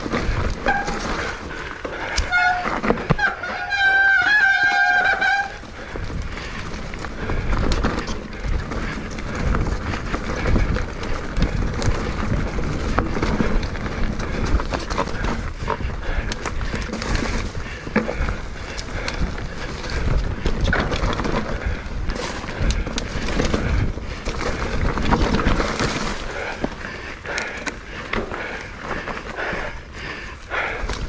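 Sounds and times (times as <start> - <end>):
bicycle rolling rumble: 0.0 - 31.0
wind noise: 0.0 - 31.0.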